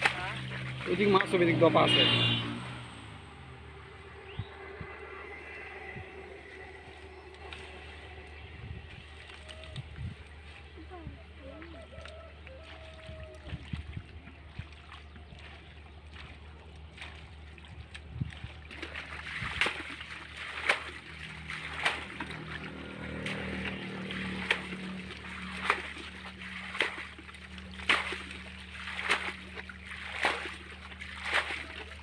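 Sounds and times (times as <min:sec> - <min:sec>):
muddy water splashing: 0:00.0 - 0:32.0.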